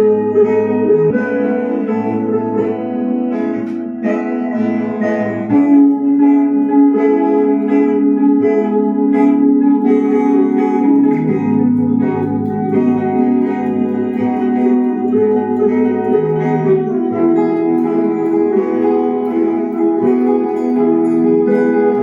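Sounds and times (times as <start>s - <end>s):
held chords: 0.0s - 22.0s
plucked guitar-like strings: 0.0s - 22.0s.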